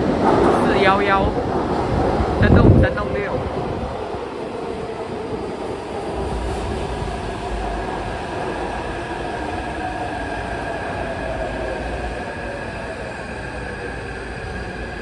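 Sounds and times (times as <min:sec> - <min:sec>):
train rumbling into station: 0:00.0 - 0:15.0.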